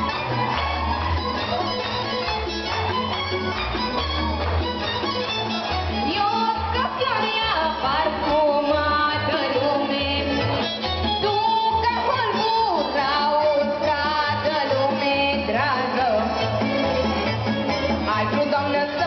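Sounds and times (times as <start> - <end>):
folk dance song: 0.0 - 19.0.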